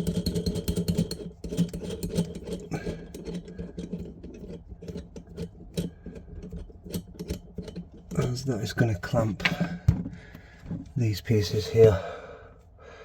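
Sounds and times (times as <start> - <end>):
tap fittings clicking and knocking: 0.0 - 10.9
steady low hum: 1.0 - 13.0.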